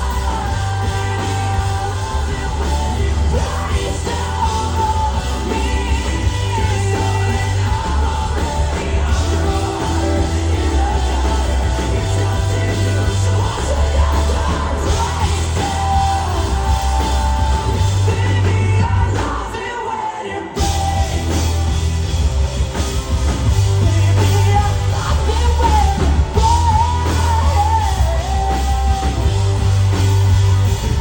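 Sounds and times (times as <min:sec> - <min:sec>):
lead singer singing: 0:00.0 - 0:22.7, 0:23.3 - 0:31.0
drums: 0:00.0 - 0:31.0
heavy bass: 0:00.0 - 0:31.0.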